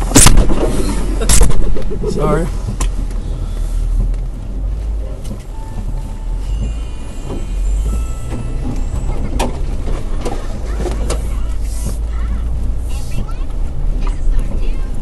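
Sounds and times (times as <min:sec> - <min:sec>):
sharp knocks and creaks: 0:00.0 - 0:14.7
vehicle engine rumbling: 0:00.0 - 0:15.0.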